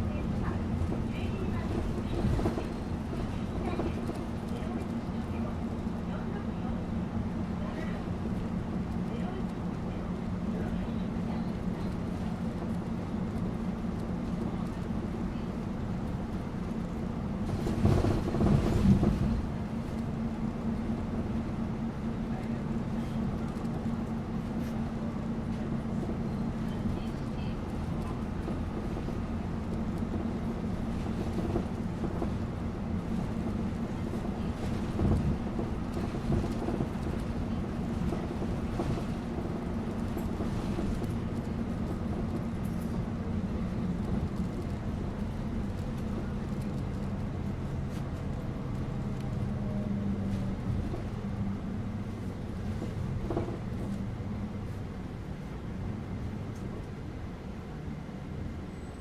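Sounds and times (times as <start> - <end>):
bus engine hum and road noise: 0.0 - 59.0.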